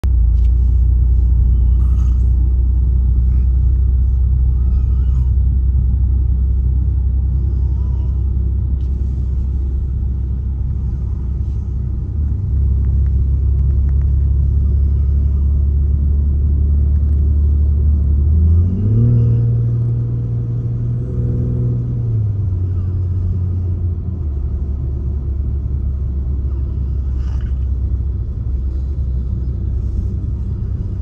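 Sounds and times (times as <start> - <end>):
car cabin road and engine rumble: 0.0 - 31.0.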